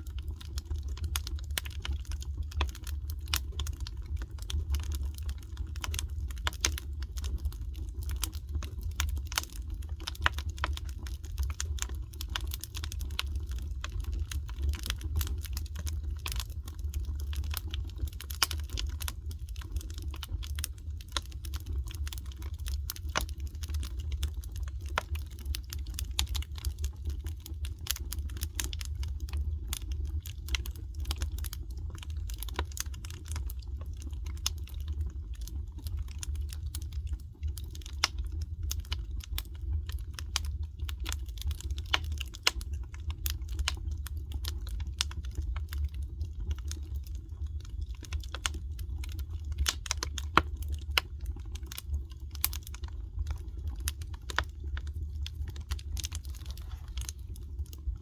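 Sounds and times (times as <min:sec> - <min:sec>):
low steady rumble: 0:00.0 - 0:58.0
wood fire crackling: 0:00.0 - 0:58.0.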